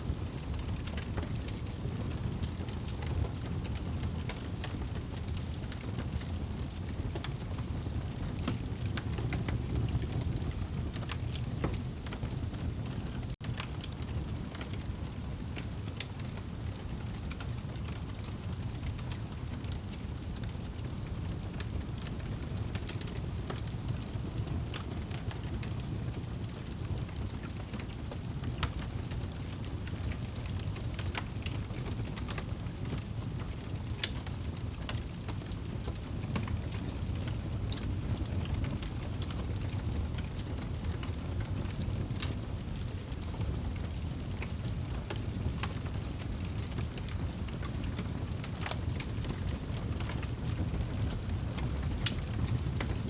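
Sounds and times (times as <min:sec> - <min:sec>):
fire low rumble: 0:00.0 - 0:53.0
fire crackling and popping: 0:00.1 - 0:53.0.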